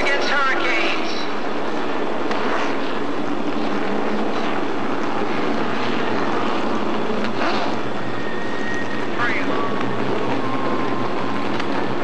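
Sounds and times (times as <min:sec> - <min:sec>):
race truck engines droning: 0:00.0 - 0:12.0
truck passing: 0:01.3 - 0:12.0.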